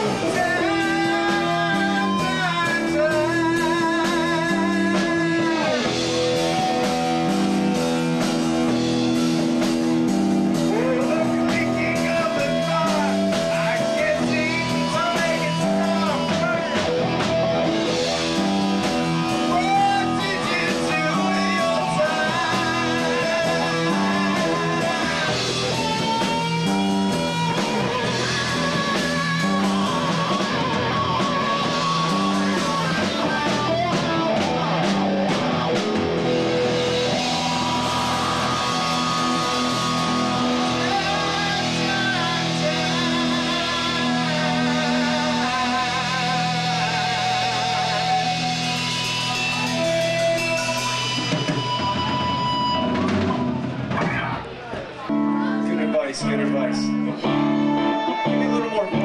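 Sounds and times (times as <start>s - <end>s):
drum kit steady beat: 0.0s - 55.4s
bass guitar: 0.0s - 59.0s
electric guitar with bent notes: 0.0s - 59.0s.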